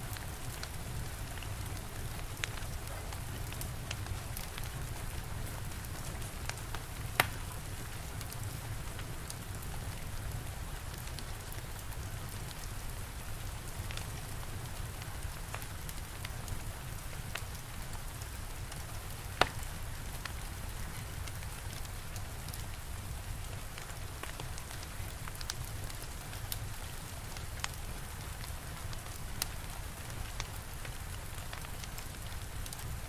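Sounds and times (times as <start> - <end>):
steady rain: 0.0 - 33.0
fire crackling: 0.1 - 33.0.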